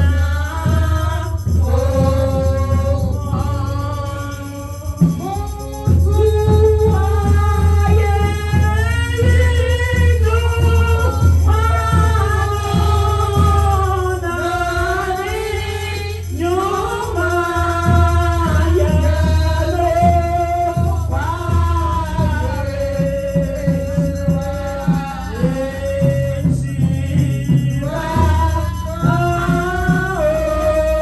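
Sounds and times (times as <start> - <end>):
band with heavy bass line: 0.0 - 31.0
person singing worship song: 0.0 - 31.0.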